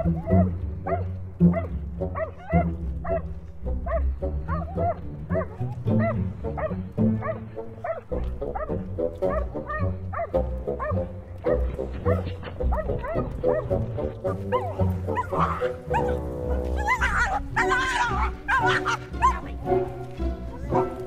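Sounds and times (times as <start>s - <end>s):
background music: 0.0s - 21.0s
dog barking and yelping: 0.0s - 21.0s.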